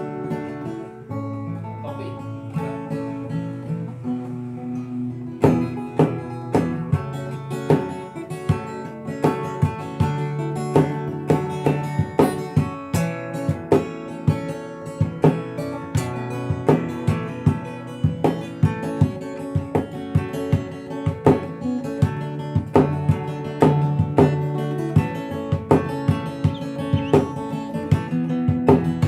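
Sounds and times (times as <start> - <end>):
fingerstyle acoustic guitar: 0.0 - 29.0.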